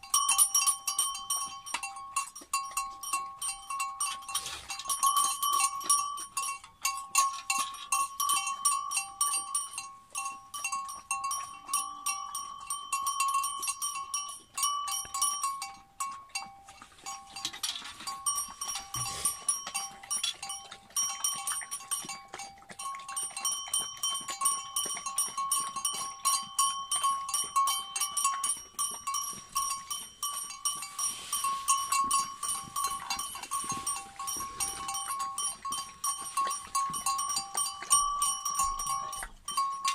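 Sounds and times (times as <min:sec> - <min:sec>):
dogs lapping and chewing: 0:00.0 - 0:39.9.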